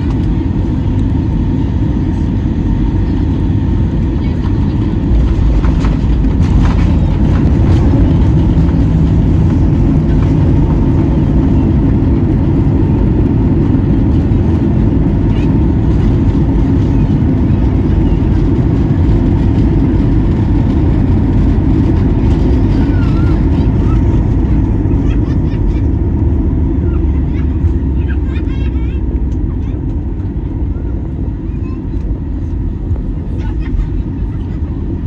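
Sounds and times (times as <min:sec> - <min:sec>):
airplane cabin rumble: 0:00.0 - 0:35.0.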